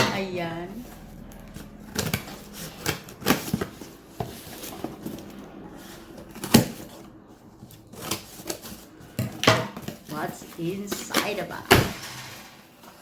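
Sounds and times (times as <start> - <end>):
box being handled: 0.8 - 11.4.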